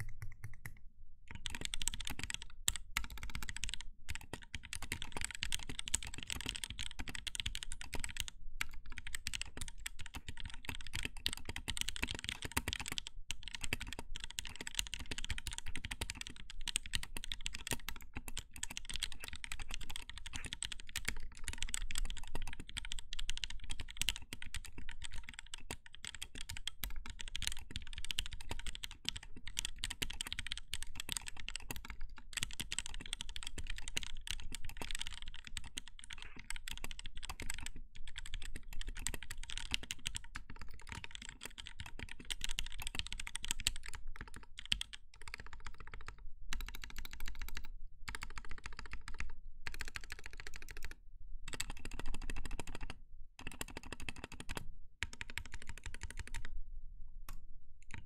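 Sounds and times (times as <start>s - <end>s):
mechanical keyboard typing: 0.0s - 56.5s, 57.3s - 58.0s.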